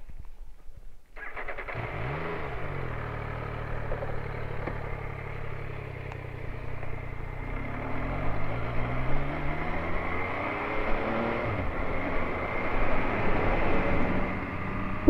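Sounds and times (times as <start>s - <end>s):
motorcycle engine revving: 1.2s - 15.0s.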